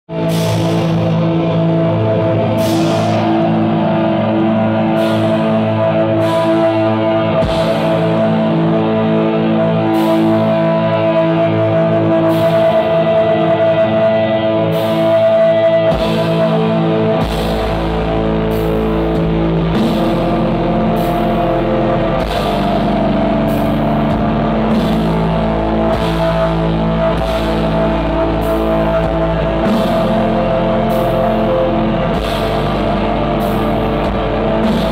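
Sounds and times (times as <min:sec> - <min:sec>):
deep bass: 0:00.1 - 0:34.9
droning guitar chords: 0:00.1 - 0:34.9
drum and cymbal hits: 0:00.2 - 0:09.2, 0:14.8 - 0:34.9.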